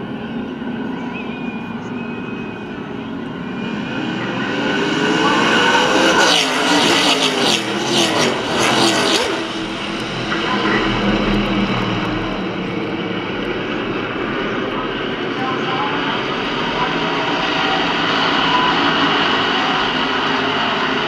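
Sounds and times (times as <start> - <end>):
race cars passing at speed: 0.0 - 21.0.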